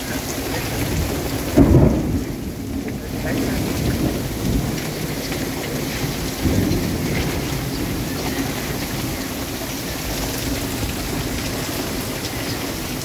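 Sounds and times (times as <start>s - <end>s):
heavy rain on water: 0.0s - 13.0s
thunder rumble: 0.0s - 13.0s
water running off roof: 0.0s - 13.0s.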